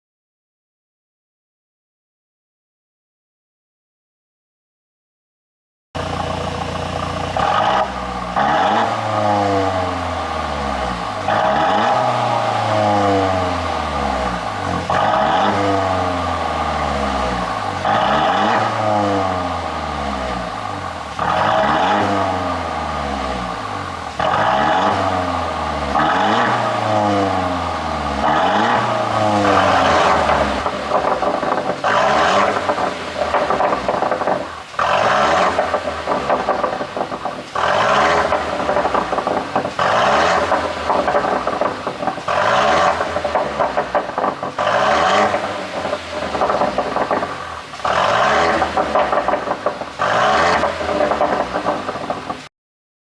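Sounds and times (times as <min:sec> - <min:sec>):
car exhaust revving: 0:06.0 - 0:52.5
exhaust crackles and pops: 0:06.0 - 0:52.5.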